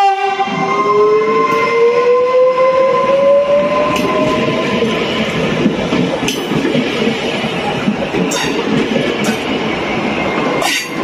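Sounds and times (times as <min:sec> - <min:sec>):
wheels rumbling on rail: 0:00.0 - 0:11.0.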